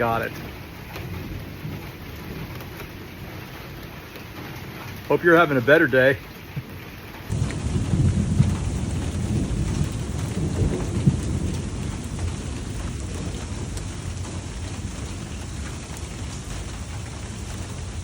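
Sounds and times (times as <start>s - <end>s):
low rumble of thunder: 0.0s - 5.2s, 6.2s - 18.0s
heavy rain pouring: 0.0s - 18.0s.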